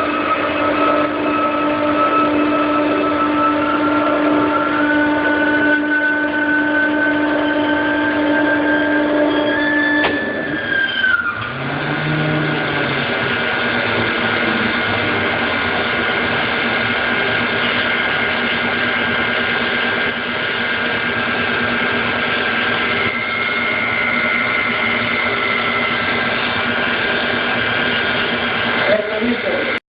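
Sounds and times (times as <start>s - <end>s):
chiller compressor running: 0.0s - 29.8s
high whine: 0.0s - 29.8s.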